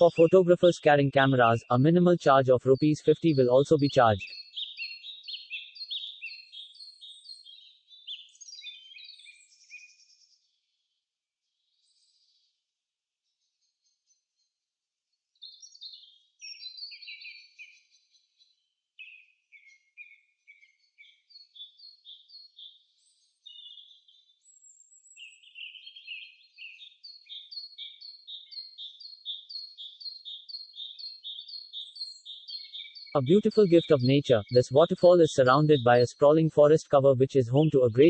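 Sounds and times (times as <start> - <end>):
birds chirping and singing: 0.0 - 10.5, 15.4 - 38.0.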